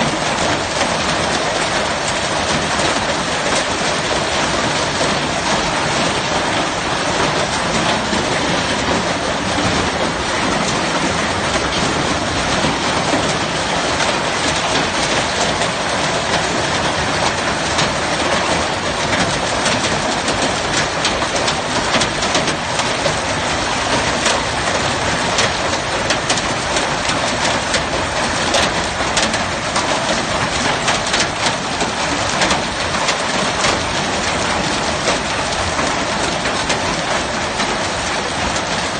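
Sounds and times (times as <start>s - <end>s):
hail and rain pelting down: 0.0s - 38.9s.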